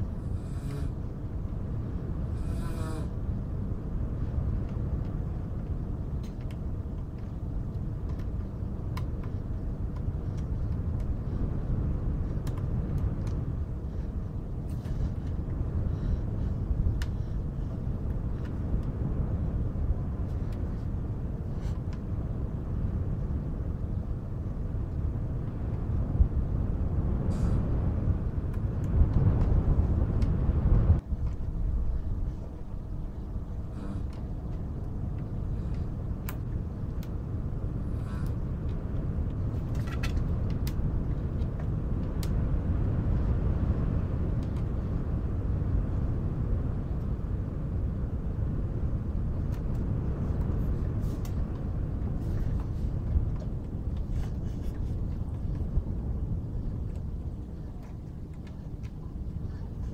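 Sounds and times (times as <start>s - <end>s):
low rumble of wind: 0.0s - 59.9s.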